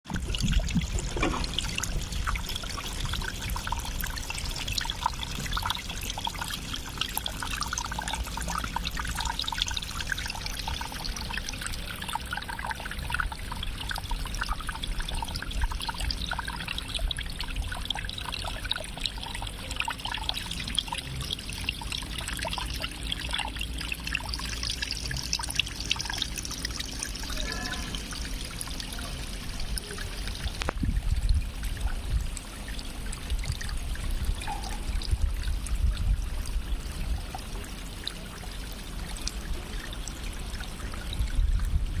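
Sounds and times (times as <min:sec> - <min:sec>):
water trickling and splashing: 0:00.0 - 0:42.0.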